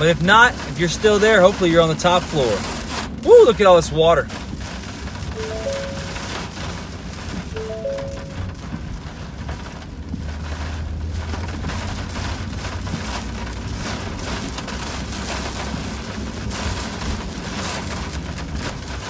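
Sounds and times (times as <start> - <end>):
heavy rain pelting a car: 0.0 - 19.0
road and wind noise: 0.0 - 19.0.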